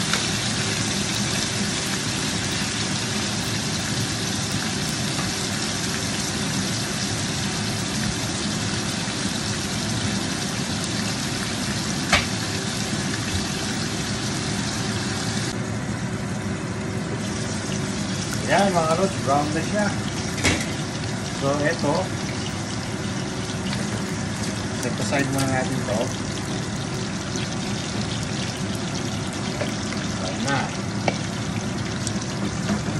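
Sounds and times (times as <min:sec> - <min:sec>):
meat sizzling in oil: 0:00.0 - 0:15.6, 0:16.2 - 0:32.9.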